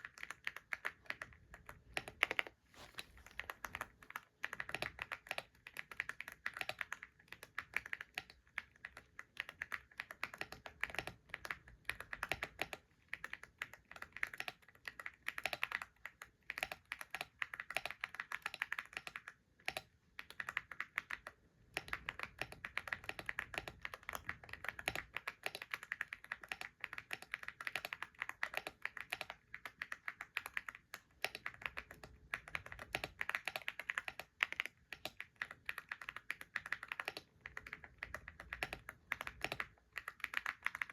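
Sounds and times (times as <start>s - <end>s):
computer keyboard typing: 0.0s - 40.9s.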